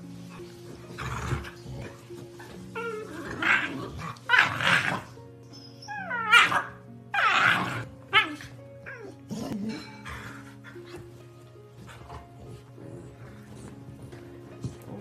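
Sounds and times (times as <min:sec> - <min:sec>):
background music: 0:00.0 - 0:15.0
dogs play-growling: 0:00.1 - 0:15.0.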